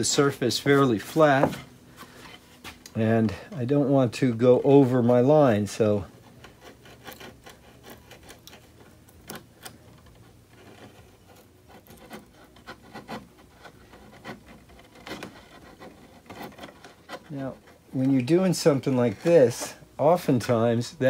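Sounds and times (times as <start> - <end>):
chisel scraping wood: 0.0 - 19.9.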